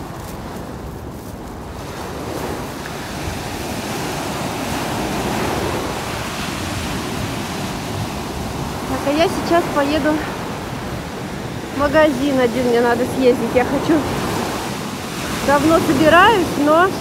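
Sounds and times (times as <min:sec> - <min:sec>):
waves washing on beach: 0:00.0 - 0:17.0.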